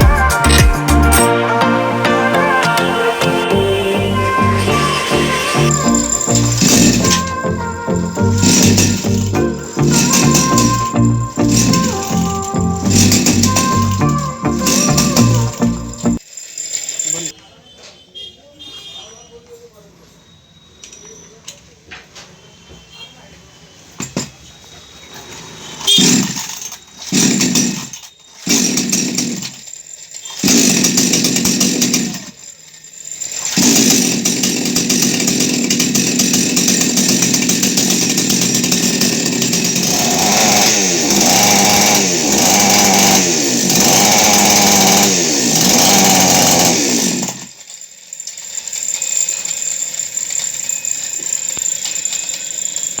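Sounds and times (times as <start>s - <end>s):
chainsaw engine revving: 0.0s - 17.3s, 25.7s - 26.5s, 27.1s - 53.0s.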